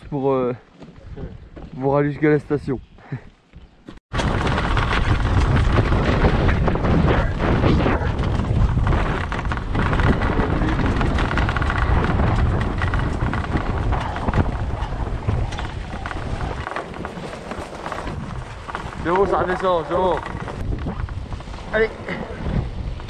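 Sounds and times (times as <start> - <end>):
tyres rumbling on loose stones: 3.6 - 23.0
motorcycle jolting over bumps: 4.1 - 23.0.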